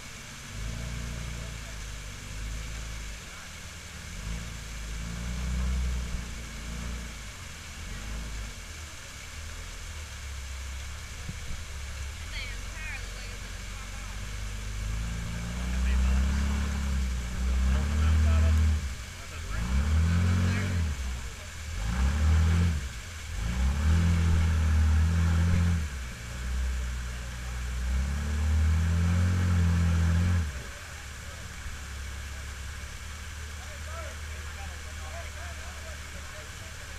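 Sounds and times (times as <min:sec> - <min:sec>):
engine rumbling at low speed: 0:00.0 - 0:36.9
falling water splashing: 0:00.0 - 0:36.9.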